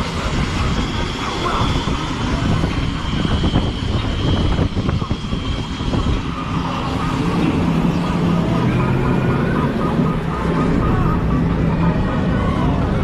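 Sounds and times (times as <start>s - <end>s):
steady low droning tone: 0.0s - 13.0s
street traffic: 0.0s - 13.0s
wind buffeting microphone: 0.0s - 13.0s.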